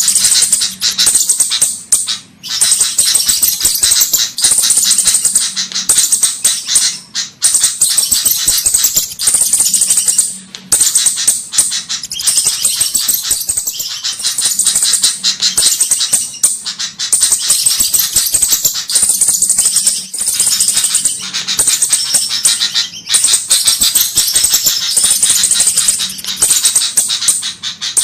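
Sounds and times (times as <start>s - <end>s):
high-pitched chattering bird calls: 0.0s - 28.0s.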